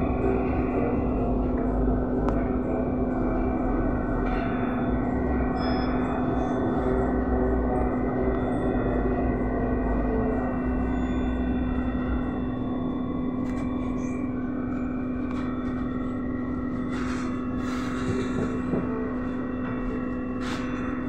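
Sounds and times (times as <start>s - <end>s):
trolleybus electrical hum: 0.0s - 21.0s.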